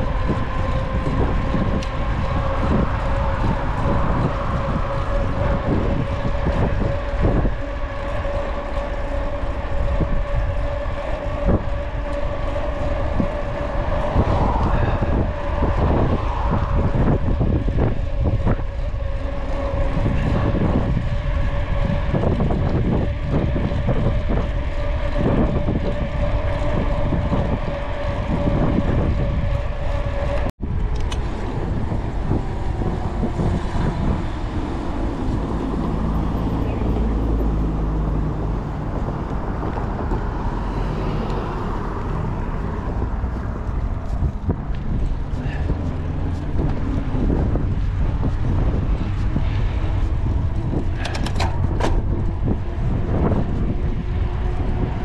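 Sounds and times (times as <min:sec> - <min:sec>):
bike tyres rolling on pavement: 0:00.0 - 0:55.0
wind buffeting microphone: 0:00.0 - 0:55.0.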